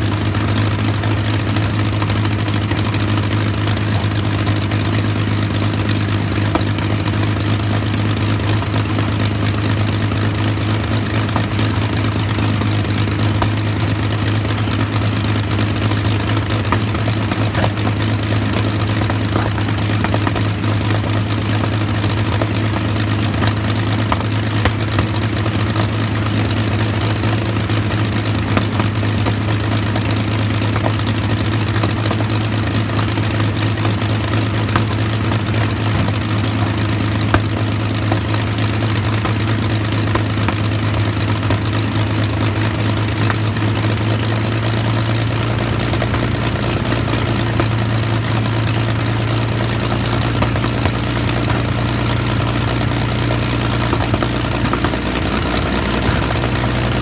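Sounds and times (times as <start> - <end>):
aero engine running steadily: 0.0 - 57.0.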